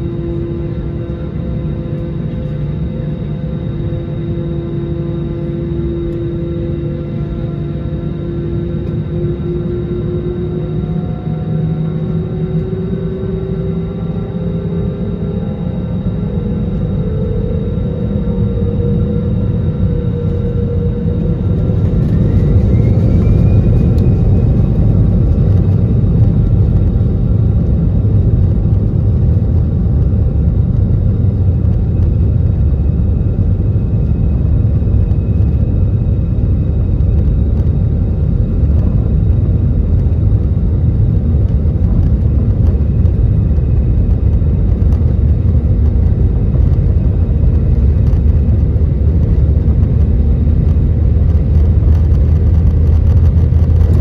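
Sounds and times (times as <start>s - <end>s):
faint whining tones: 0.0s - 54.0s
jet engines rumbling on takeoff: 0.0s - 54.0s.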